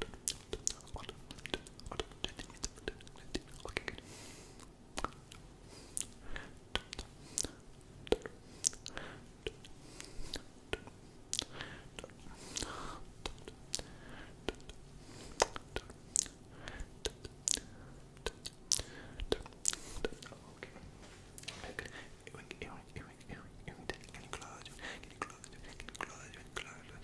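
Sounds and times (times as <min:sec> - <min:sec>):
wet lip and tongue clicks: 0:00.0 - 0:04.0, 0:04.6 - 0:05.4, 0:06.0 - 0:20.8, 0:23.2 - 0:27.0
soft breathy hiss: 0:00.0 - 0:27.0.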